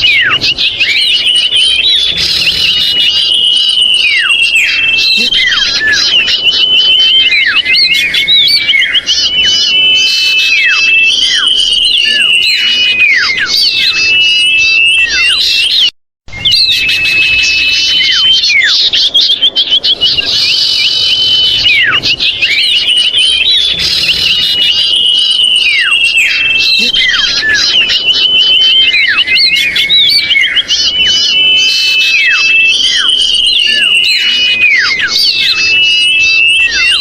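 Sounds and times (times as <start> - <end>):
chorus of bird calls: 0.0 - 37.0.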